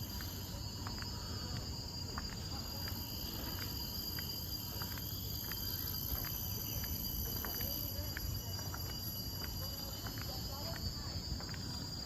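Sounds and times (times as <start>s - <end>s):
footsteps on a path: 0.0s - 12.0s
insect drone: 0.0s - 12.0s.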